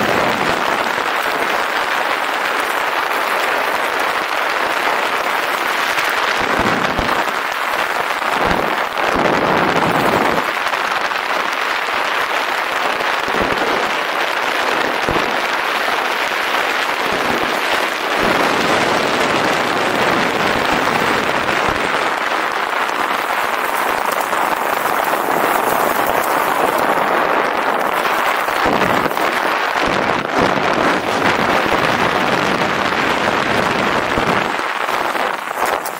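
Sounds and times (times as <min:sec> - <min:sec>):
crackling and rattling on rough trail: 0:00.0 - 0:35.9
wind rushing on microphone: 0:00.0 - 0:35.9.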